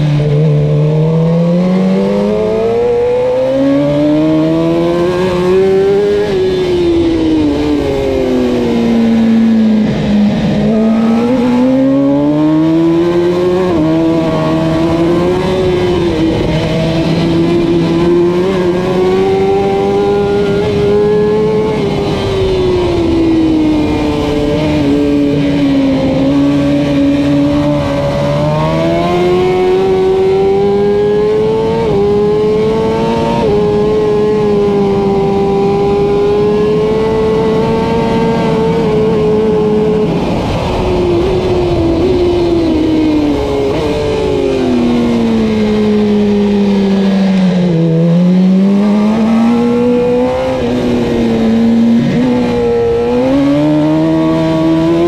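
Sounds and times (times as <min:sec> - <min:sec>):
racing motorcycle engine revving: 0:00.0 - 0:55.0.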